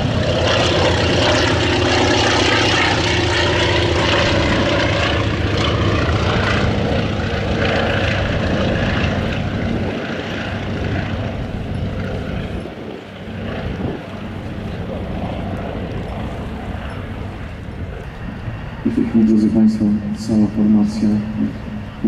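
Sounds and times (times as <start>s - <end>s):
propeller planes flying past: 0.0s - 22.0s.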